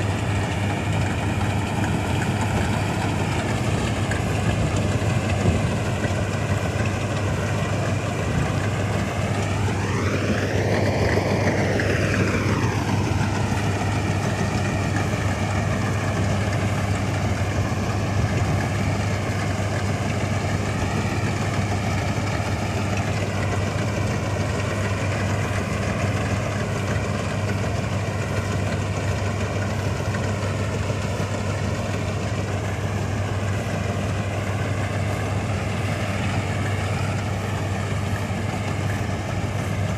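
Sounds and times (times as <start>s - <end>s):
combine harvester engine hum: 0.0s - 39.9s
machinery whirring: 0.0s - 39.9s.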